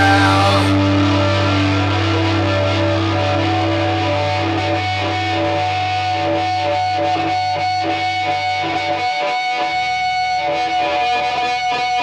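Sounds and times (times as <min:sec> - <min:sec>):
bass guitar: 0:00.0 - 0:12.0
distorted electric guitar: 0:00.0 - 0:12.0.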